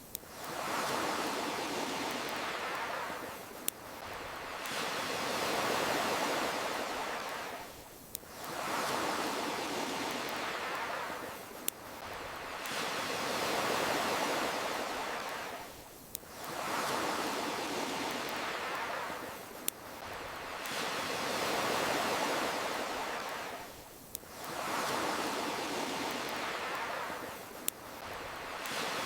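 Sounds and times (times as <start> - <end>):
ocean waves washing in: 0.0 - 29.0.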